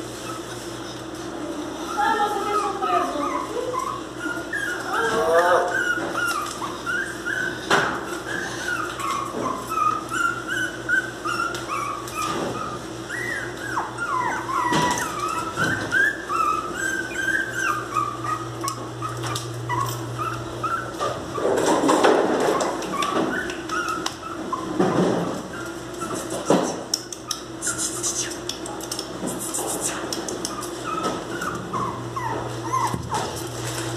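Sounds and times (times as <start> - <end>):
puppy whining and crying: 0.0 - 28.5, 30.2 - 33.8.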